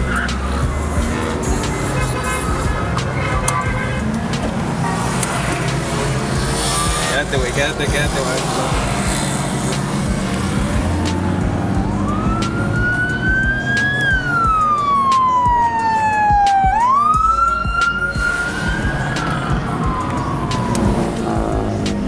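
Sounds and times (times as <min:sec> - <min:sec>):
low rumble of car engines: 0:00.0 - 0:22.0
police siren wailing: 0:00.0 - 0:22.0.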